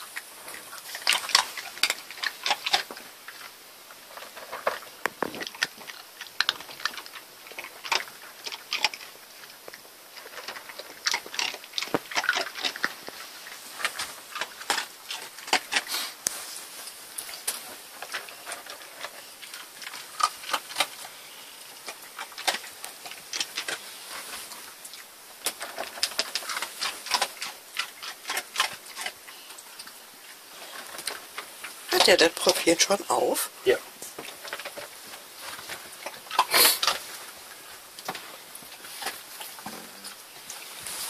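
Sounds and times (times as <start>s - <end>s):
dog crunching dry kibble: 0.0s - 41.0s.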